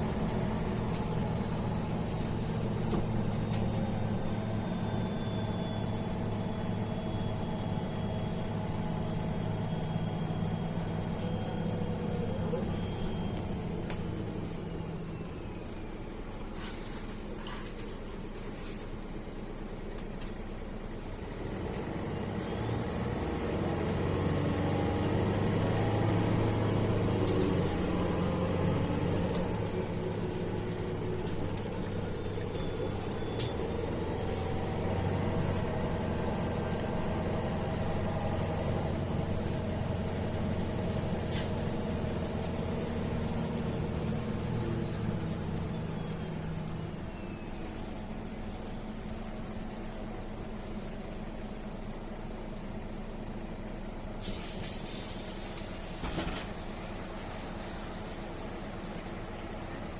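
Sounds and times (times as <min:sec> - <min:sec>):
bus diesel engine hum: 0:00.0 - 0:59.9.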